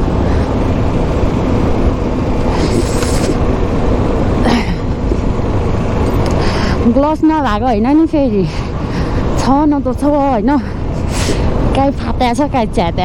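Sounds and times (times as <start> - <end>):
hissing gusts: 0.0 - 12.9
motorcycle engine hum: 0.0 - 13.0
wind rushing over microphone: 0.0 - 13.0.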